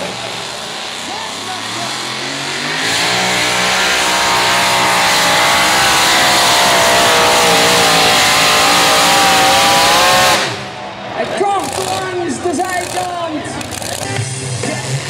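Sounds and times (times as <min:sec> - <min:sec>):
pickup engine at full throttle: 0:00.0 - 0:15.0.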